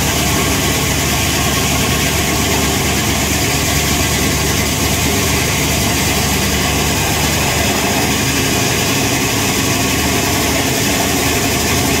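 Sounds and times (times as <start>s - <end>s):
sawmill blade sawing log: 2.1s - 12.0s.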